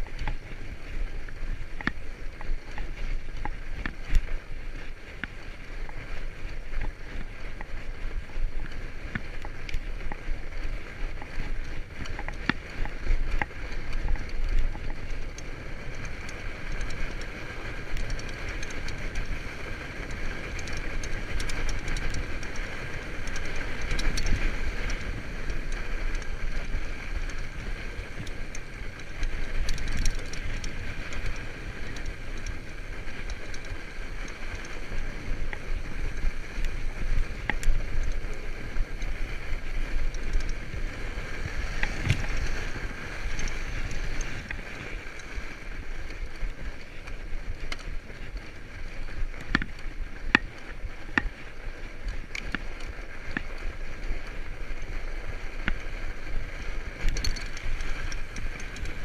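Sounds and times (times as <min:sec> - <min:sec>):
bike clicks and rattles: 0:00.0 - 0:59.0
bike tyres rolling on snow: 0:00.0 - 0:59.0.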